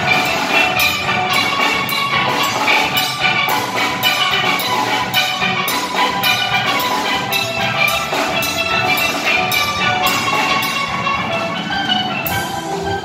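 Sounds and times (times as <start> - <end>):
drum kit beat: 0.0 - 13.0
steel pan band playing: 0.0 - 13.0.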